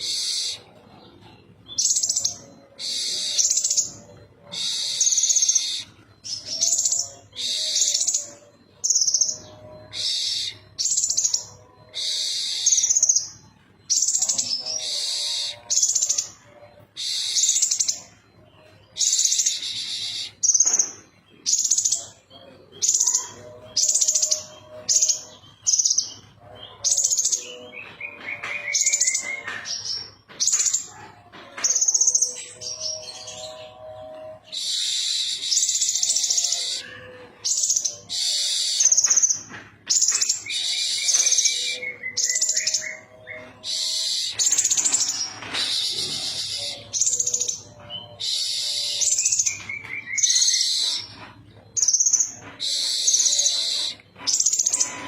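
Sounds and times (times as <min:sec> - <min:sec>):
sunbird singing: 0:00.0 - 0:55.0.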